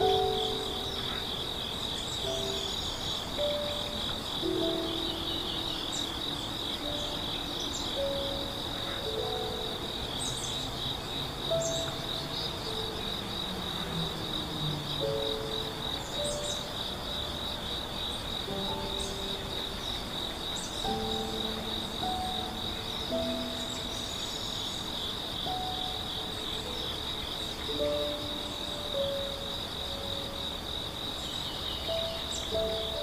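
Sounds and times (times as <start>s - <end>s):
grass insects trilling: 0.0s - 33.0s
soft background music: 0.0s - 33.0s.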